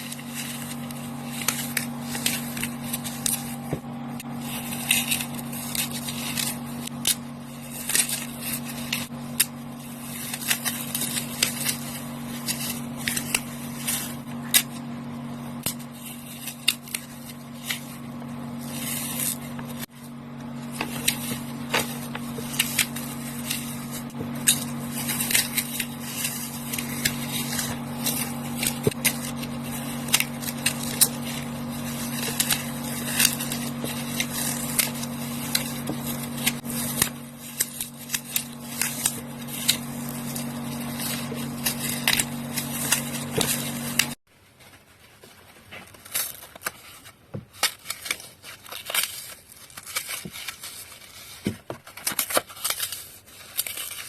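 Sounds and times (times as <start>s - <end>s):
low hum: 0.0s - 44.2s
floral foam crushed crackling: 0.0s - 54.0s.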